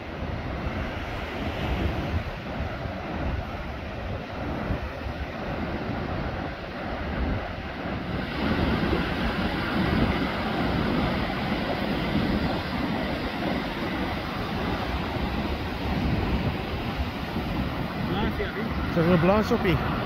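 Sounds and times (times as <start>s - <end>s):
surf breaking on beach: 0.0s - 20.0s
wind rumbling on microphone: 0.0s - 20.0s.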